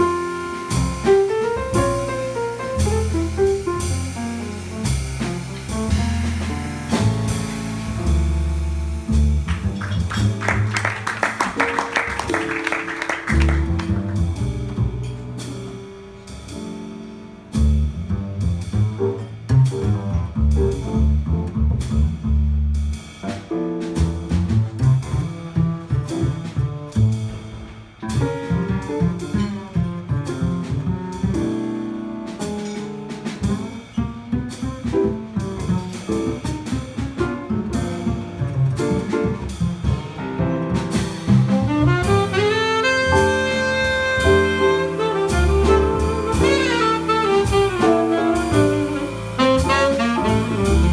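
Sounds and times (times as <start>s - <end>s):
soft drums and cymbals: 0.0s - 10.5s, 13.3s - 50.9s
piano chords: 0.0s - 21.9s, 23.0s - 50.9s
upright double bass: 0.0s - 50.9s.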